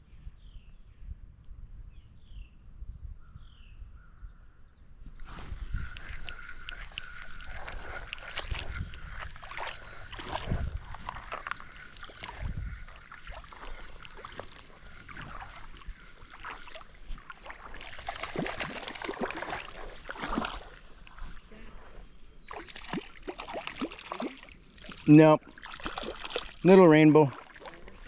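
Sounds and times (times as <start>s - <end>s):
kayak paddle splashing: 5.2s - 28.0s
water sloshing against hull: 5.2s - 28.0s.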